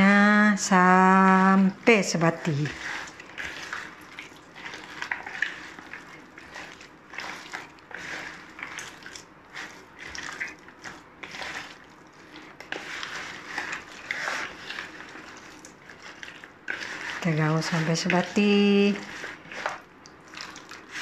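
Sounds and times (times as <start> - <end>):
wet squelching of marinade: 1.9 - 21.0.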